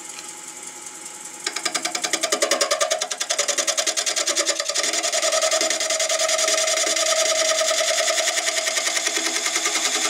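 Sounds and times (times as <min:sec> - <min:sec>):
wood lathe running: 0:01.4 - 0:10.0.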